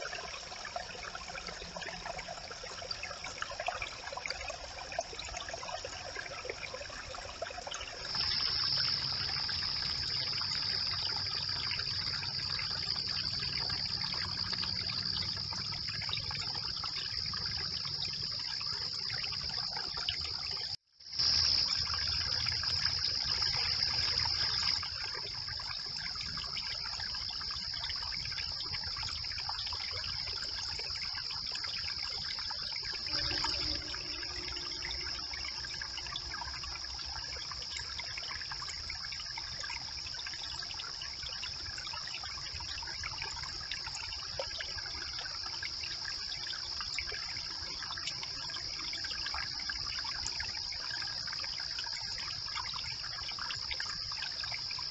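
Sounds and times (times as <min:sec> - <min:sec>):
brook water trickling: 0:00.0 - 0:54.9.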